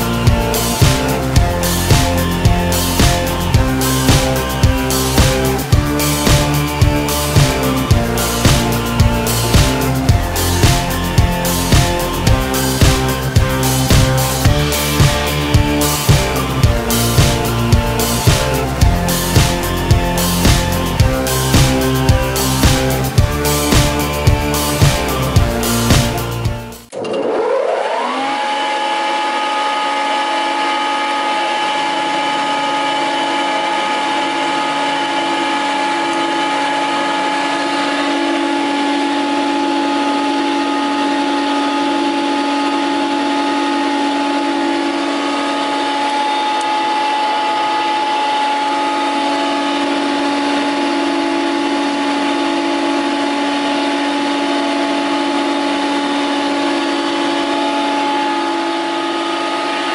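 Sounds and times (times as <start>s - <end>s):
planer motor whining: 0.0s - 59.9s.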